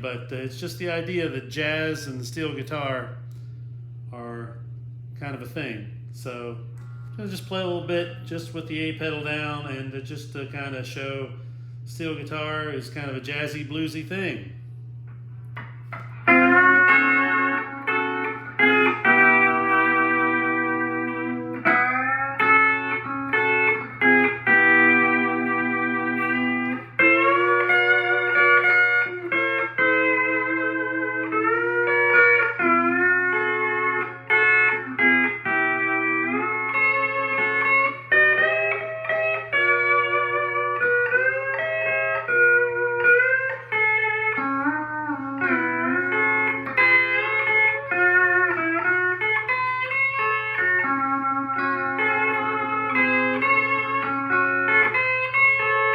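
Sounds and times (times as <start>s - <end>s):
low hum: 0.0s - 49.2s
pedal steel guitar chords: 0.0s - 55.9s.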